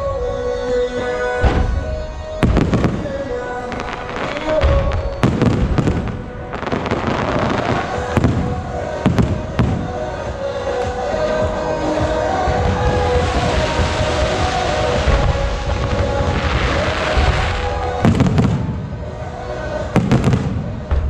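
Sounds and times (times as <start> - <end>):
fireworks crackle: 0.0 - 21.0
music with held notes: 0.0 - 21.0
fireworks bangs: 0.6 - 21.0.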